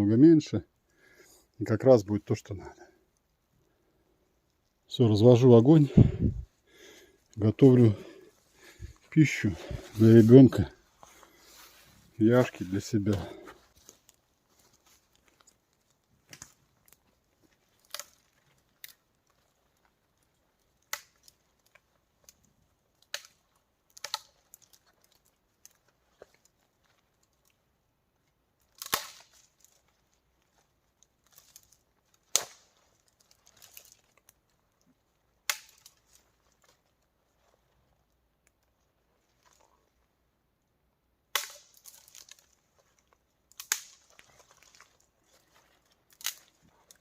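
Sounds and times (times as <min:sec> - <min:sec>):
dry wood snapping and crackling: 0:02.8 - 0:40.1, 0:41.2 - 0:47.0.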